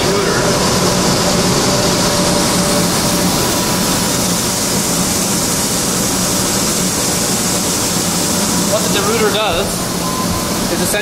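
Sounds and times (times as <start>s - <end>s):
machinery running: 0.0s - 11.0s.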